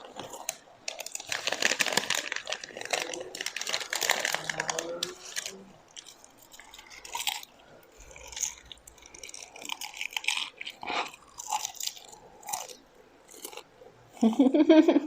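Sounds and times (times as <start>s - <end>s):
wet chewing mouth noises: 2.4s - 14.4s.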